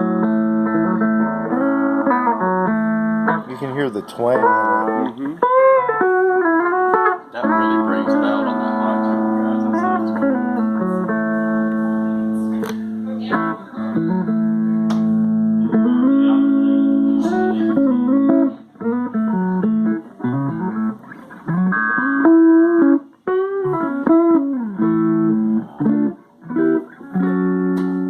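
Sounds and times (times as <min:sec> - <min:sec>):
clean electric guitar: 0:00.0 - 0:28.0.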